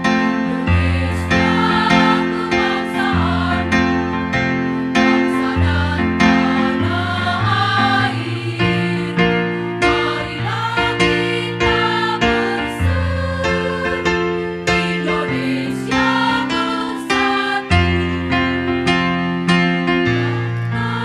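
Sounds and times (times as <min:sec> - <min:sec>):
women's choir singing: 0:00.0 - 0:18.6, 0:19.9 - 0:21.0.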